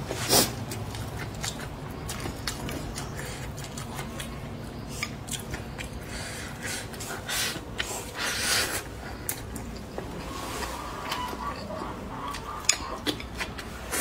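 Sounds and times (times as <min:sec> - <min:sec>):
chewing food: 0:00.0 - 0:14.0.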